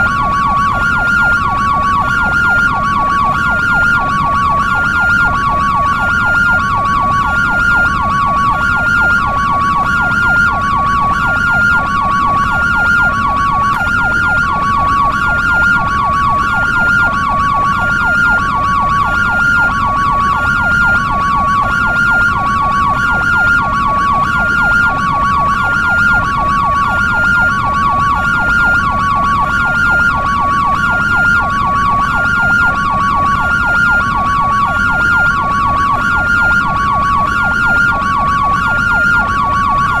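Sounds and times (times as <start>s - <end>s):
two-tone ambulance siren: 0.0s - 40.0s
yelp siren warble: 0.0s - 40.0s.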